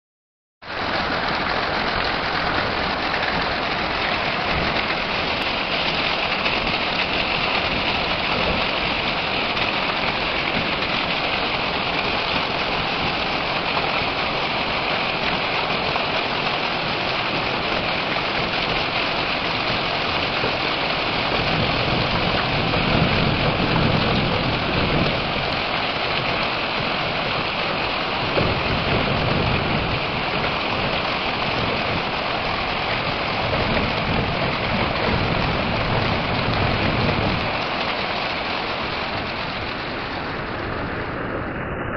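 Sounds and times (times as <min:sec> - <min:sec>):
heavy rain on gravel: 0:00.6 - 0:41.8.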